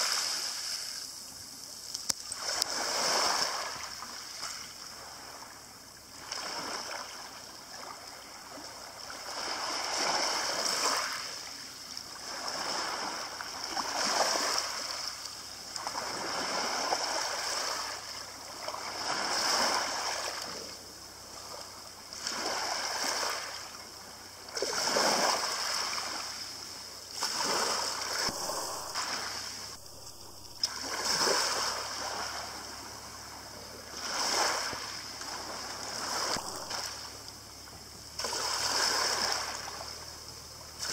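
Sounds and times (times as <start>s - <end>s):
waves breaking on pebbles: 0.0s - 40.9s.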